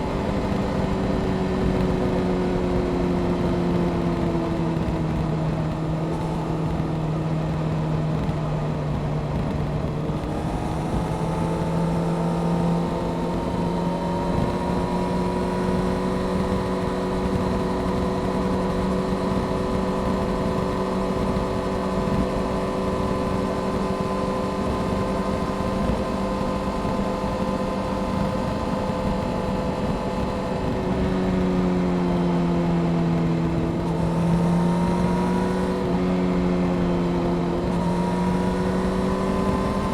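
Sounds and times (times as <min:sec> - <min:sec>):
motorcycle engine cruising: 0:00.0 - 0:39.9
steady rushing noise: 0:00.0 - 0:39.9.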